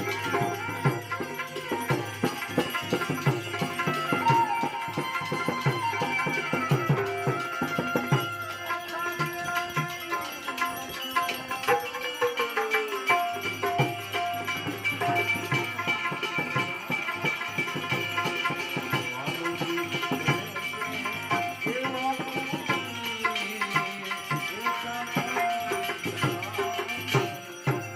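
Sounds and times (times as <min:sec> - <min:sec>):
gliding melody over held tones: 0:00.0 - 0:27.9
hand drums beating: 0:00.0 - 0:27.9
jingling percussion: 0:00.0 - 0:27.9.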